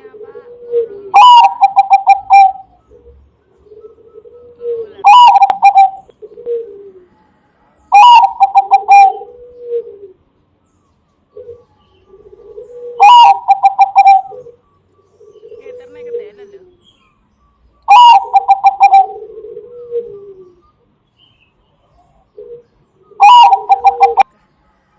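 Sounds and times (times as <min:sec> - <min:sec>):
dove stuttering coo phrases: 0:00.0 - 0:07.3, 0:07.9 - 0:10.4, 0:11.3 - 0:16.8, 0:17.9 - 0:20.8, 0:21.8 - 0:24.3
softer lower dove cooing: 0:00.0 - 0:10.5, 0:11.3 - 0:16.8, 0:17.8 - 0:20.9, 0:21.6 - 0:24.3.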